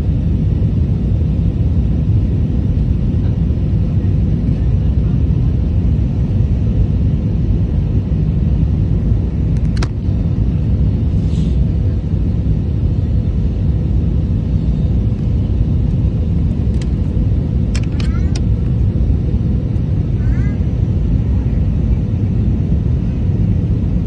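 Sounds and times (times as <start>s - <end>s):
aircraft cabin rumble: 0.0s - 24.0s
faint hum: 0.0s - 24.0s.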